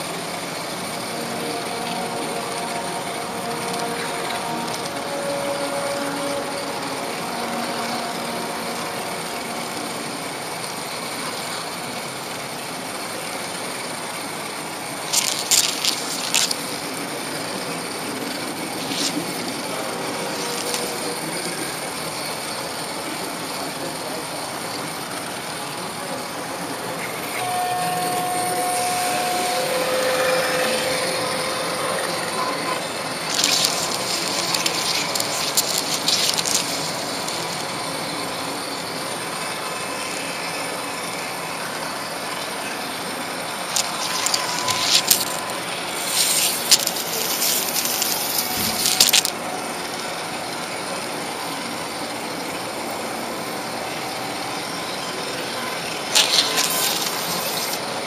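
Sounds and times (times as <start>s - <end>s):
model train rolling on track: 0.0s - 58.0s.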